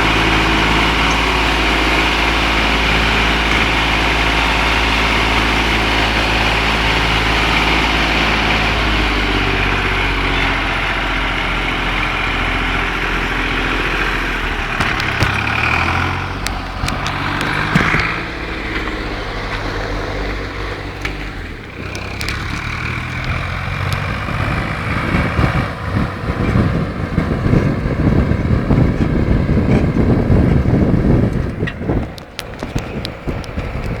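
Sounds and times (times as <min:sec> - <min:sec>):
rough uneven noise: 0:00.0 - 0:34.0
tractor engine running: 0:00.0 - 0:34.0.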